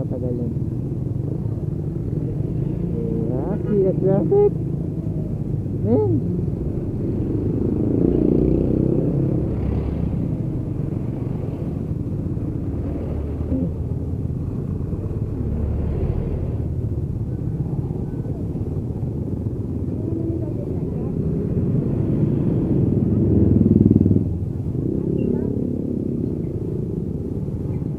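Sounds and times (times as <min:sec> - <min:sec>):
motorcycle engine rumble: 0:00.0 - 0:27.9
wind and road noise: 0:00.0 - 0:27.9.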